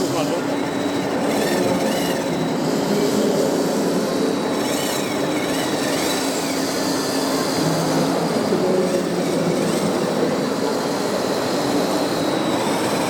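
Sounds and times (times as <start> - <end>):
electric motor and hydraulic hum: 0.0 - 13.0
short motor whines: 0.0 - 13.0.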